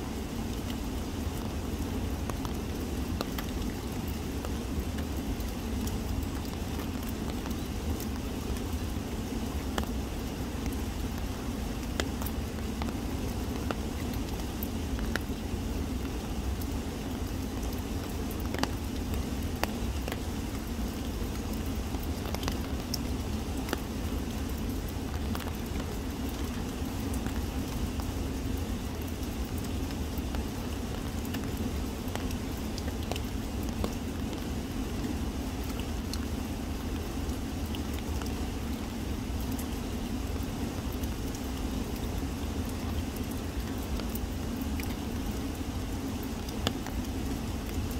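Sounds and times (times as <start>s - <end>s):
raindrops falling on leaves: 0.0s - 47.9s.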